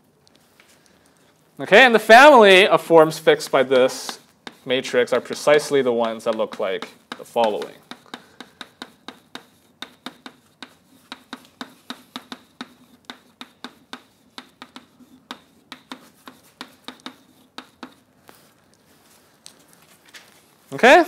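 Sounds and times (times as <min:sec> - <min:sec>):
chalk tapping and scratching: 0:02.1 - 0:19.5.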